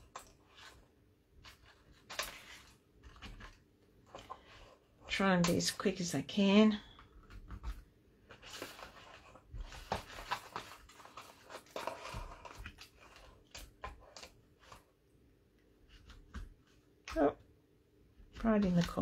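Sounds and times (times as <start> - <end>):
paper rustling and light clicks: 0.0 - 6.0, 6.7 - 15.0, 15.8 - 17.2.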